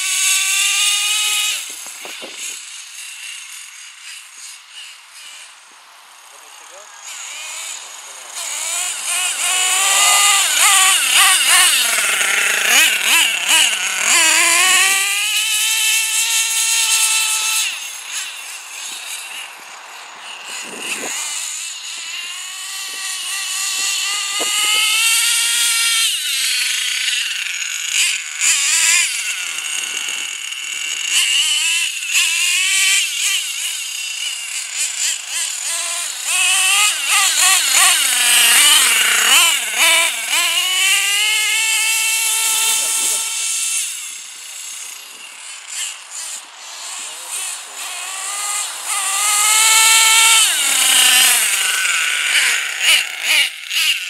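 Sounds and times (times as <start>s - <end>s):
model truck engine revving: 0.0s - 54.0s.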